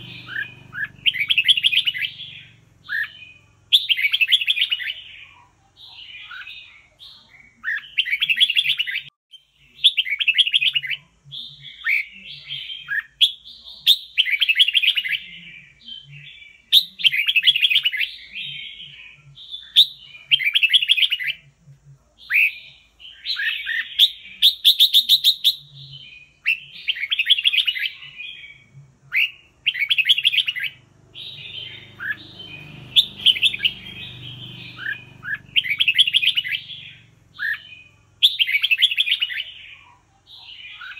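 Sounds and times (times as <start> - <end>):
bird singing warbled phrases: 0.0 - 40.9.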